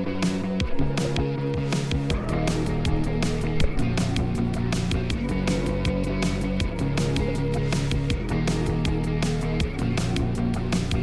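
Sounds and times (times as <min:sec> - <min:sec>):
guitar: 0:00.0 - 0:11.0
fast drum beat: 0:00.2 - 0:11.0.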